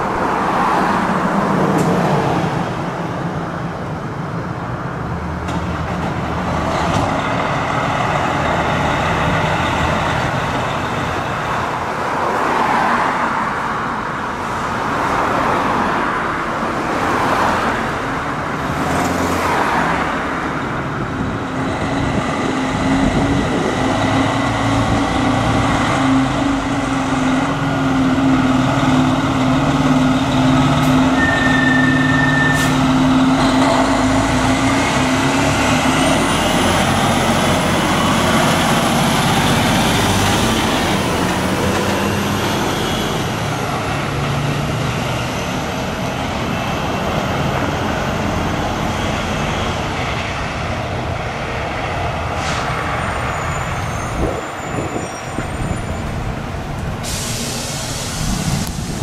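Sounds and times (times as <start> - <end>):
diesel truck engine drone: 0.0 - 59.0.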